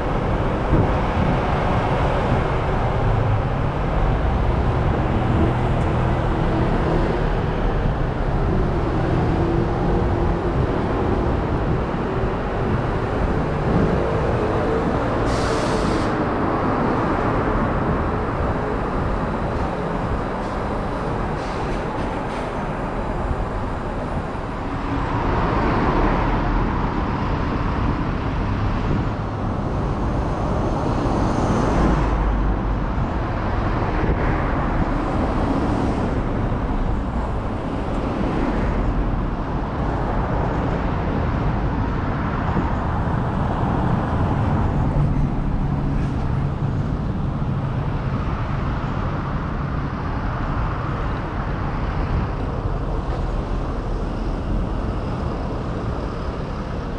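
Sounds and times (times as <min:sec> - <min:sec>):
road traffic passing: 0:00.0 - 0:56.9.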